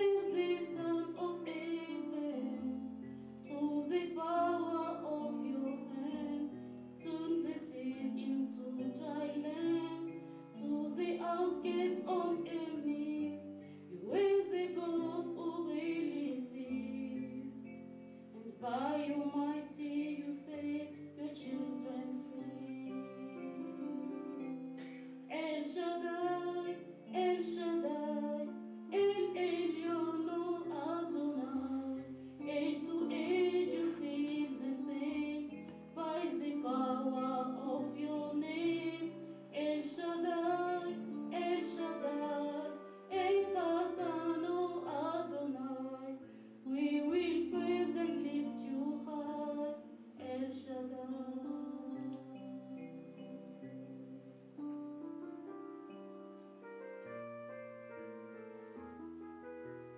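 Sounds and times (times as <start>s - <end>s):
woman singing: 0.0s - 54.2s.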